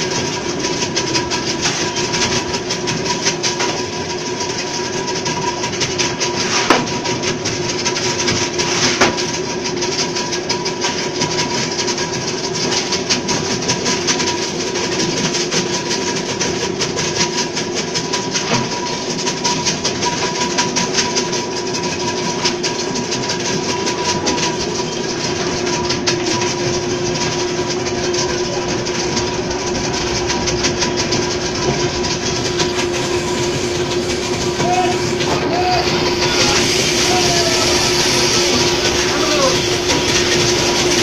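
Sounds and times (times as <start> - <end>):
fast machine rattle: 0.0 - 41.0
ice crusher motor hum: 0.0 - 41.0.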